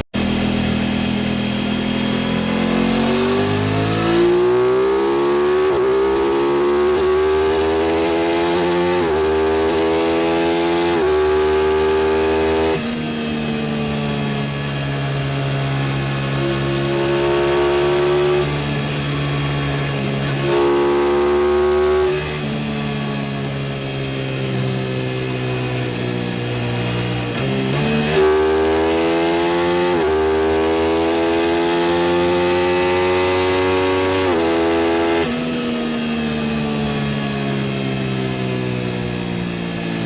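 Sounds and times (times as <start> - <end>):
motorcycle engine revving through gears: 0.0 - 40.0.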